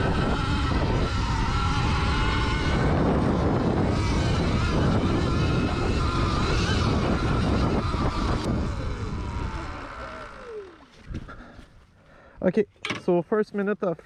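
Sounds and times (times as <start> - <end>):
electric motor whine: 0.0 - 11.6.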